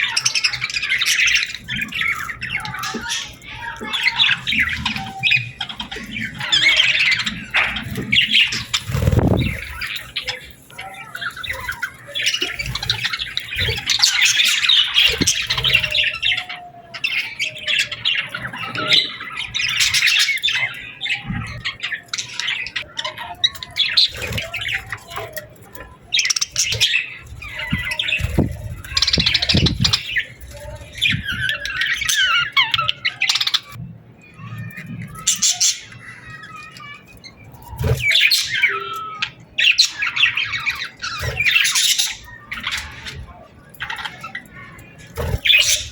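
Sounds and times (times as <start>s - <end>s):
birds chirping and squawking: 0.0s - 45.9s.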